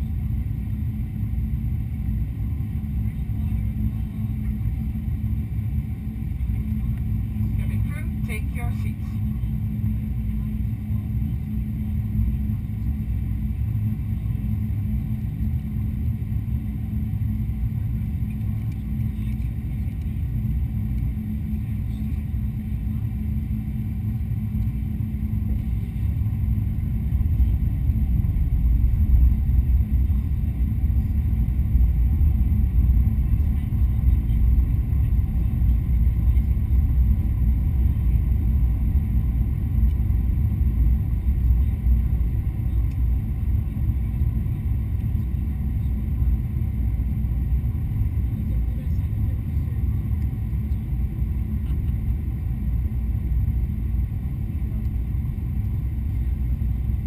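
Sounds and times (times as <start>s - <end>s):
constant cabin hum: 0.0s - 57.0s
jet engine rumble: 0.0s - 57.0s.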